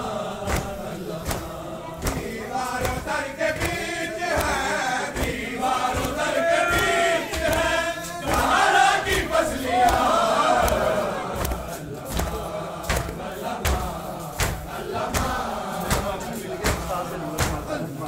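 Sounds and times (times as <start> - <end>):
men chanting a lament: 0.0 - 18.0
hands striking chests: 0.4 - 17.8.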